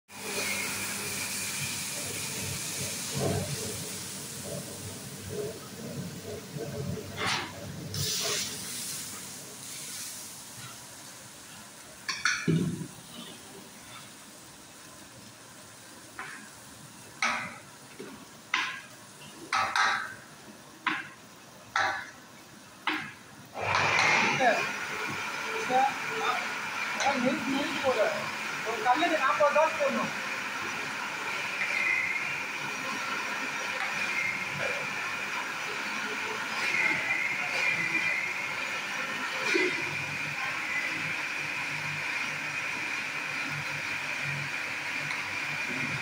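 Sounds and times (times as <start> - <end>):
batter sizzling on griddle: 0.1 - 6.6, 7.2 - 23.8, 24.4 - 46.0.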